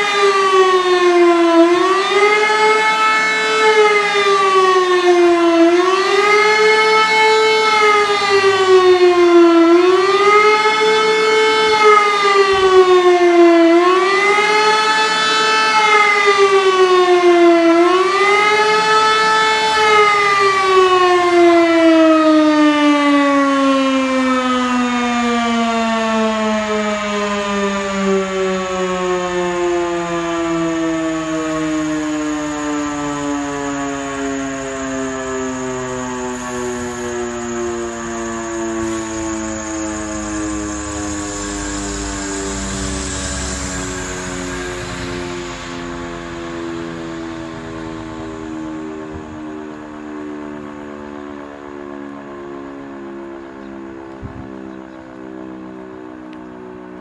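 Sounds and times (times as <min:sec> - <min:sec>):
warning siren wailing: 0:00.0 - 0:57.0.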